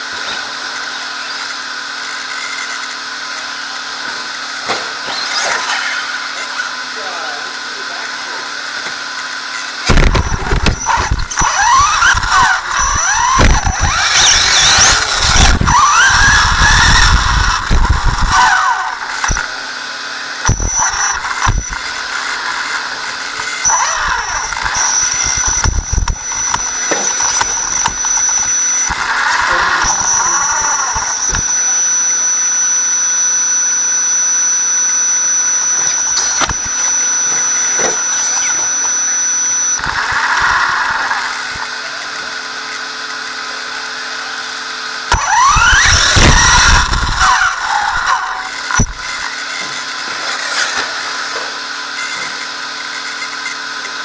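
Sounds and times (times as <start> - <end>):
rc car motor whining: 0.0 - 54.0.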